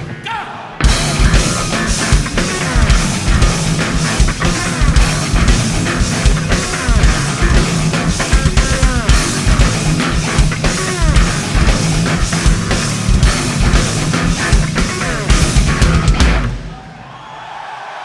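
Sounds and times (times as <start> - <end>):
live rock band playing: 0.8 - 16.7.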